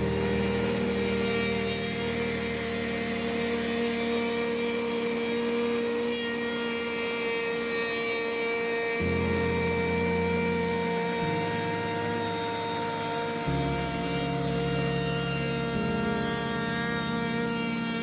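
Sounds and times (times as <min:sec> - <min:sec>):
router spindle whine: 0:00.0 - 0:18.0
wood being milled: 0:00.0 - 0:18.0.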